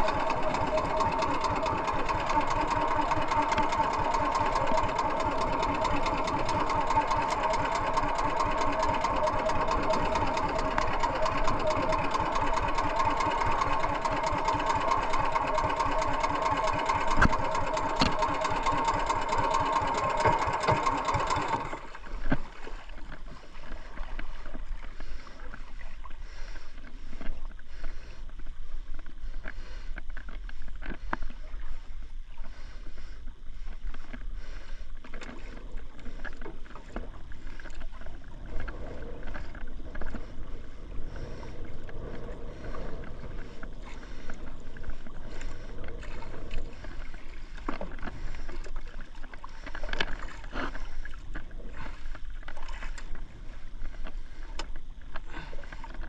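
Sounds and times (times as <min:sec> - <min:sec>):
water lapping against boat hull: 0:00.0 - 0:56.0.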